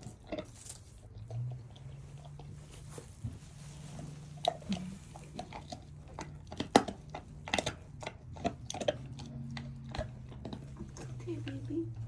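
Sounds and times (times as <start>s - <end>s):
dog gnawing on a bone: 0.0s - 12.0s.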